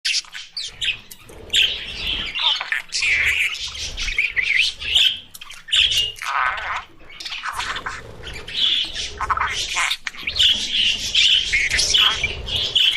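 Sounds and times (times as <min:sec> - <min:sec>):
budgerigars chirping and warbling: 0:00.1 - 0:12.9.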